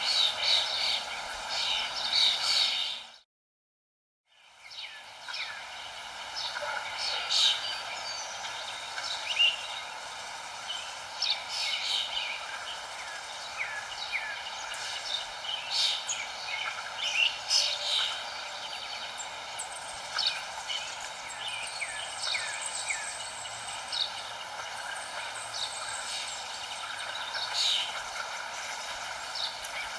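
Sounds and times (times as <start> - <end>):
birds chirping: 0.0 - 3.2, 4.3 - 29.9
steady background hiss: 0.0 - 3.2, 4.3 - 29.9.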